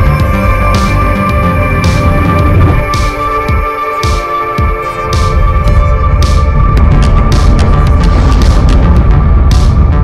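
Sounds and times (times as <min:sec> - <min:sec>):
loud electronic music with heavy bass: 0:00.0 - 0:10.0.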